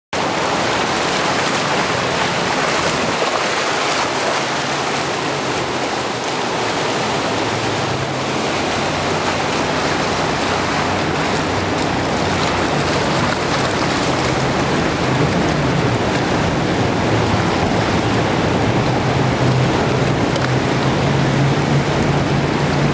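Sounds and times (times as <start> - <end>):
boat engine drone: 0.2 - 22.9
whitewater rapids rushing: 0.2 - 22.9.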